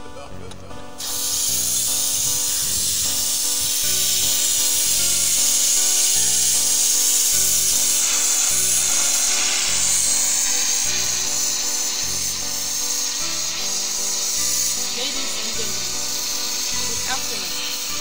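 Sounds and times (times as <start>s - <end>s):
background music of held notes: 0.0s - 18.0s
loud steady hiss: 0.8s - 18.0s.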